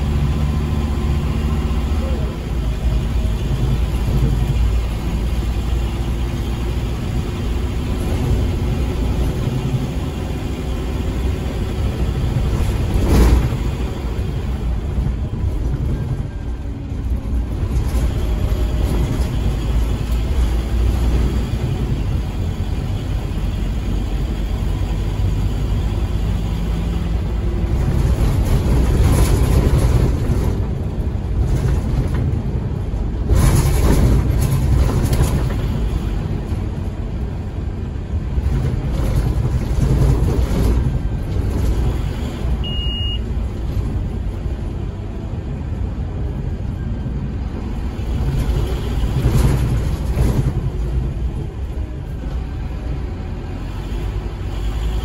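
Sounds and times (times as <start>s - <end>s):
bus engine running rough: 0.0s - 55.0s.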